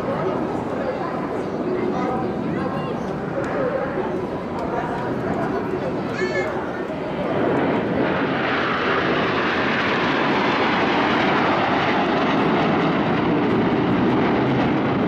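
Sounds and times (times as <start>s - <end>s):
jet engines flying past: 0.0s - 15.0s.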